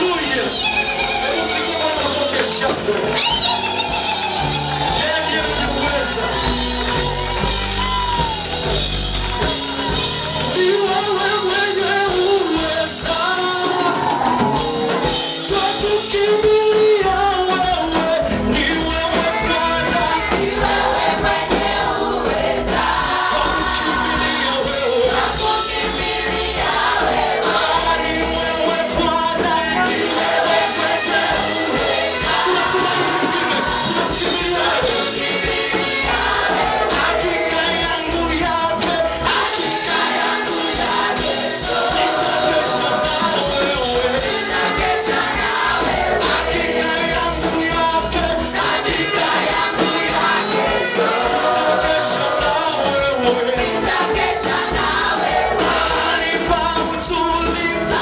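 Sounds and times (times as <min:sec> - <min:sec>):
musical accompaniment: 0:00.0 - 0:58.0
vocal group singing gospel: 0:00.0 - 0:58.0.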